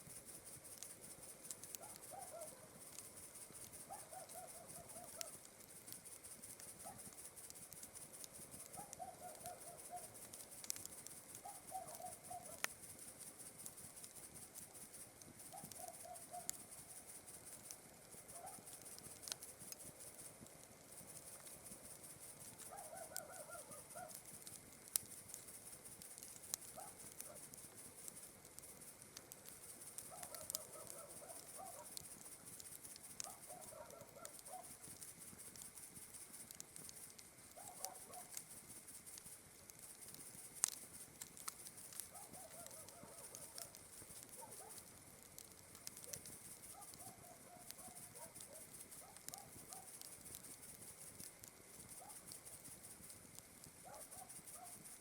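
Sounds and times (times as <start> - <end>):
campfire crackling and popping: 0.0 - 55.0
night insects chirring: 0.0 - 55.0.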